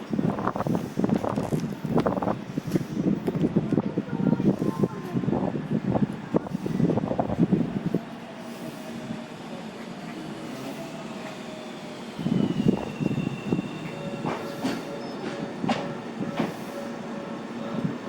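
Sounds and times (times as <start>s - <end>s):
steady train rumble: 0.0s - 18.0s.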